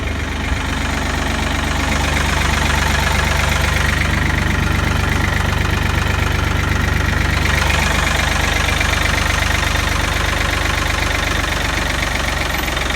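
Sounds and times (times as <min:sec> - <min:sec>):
diesel tractor engine idling: 0:00.0 - 0:12.9.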